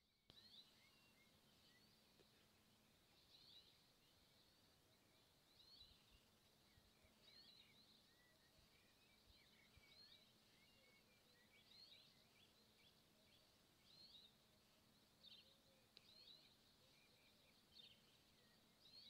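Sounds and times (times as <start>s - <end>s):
faint low hum: 0.0s - 19.0s
small birds chirping: 0.0s - 19.0s.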